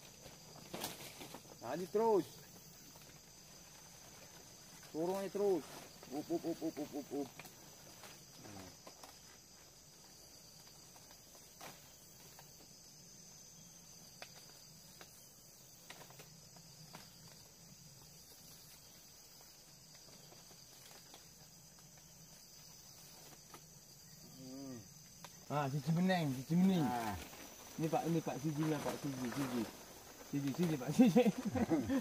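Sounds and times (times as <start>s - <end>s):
insect chorus drone: 0.0s - 32.0s.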